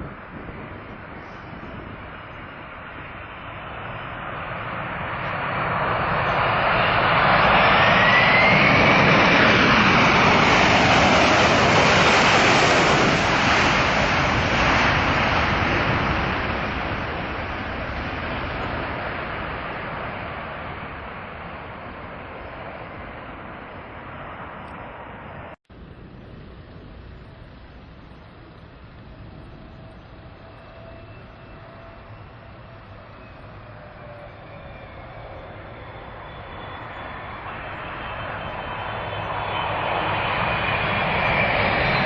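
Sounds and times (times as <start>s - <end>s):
high engine whine: 0.0s - 42.0s
jet engines roaring past: 0.0s - 42.0s.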